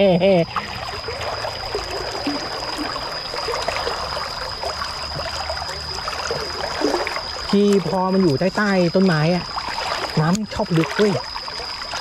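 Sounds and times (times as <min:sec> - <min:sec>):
stream water trickling: 0:00.0 - 0:12.0.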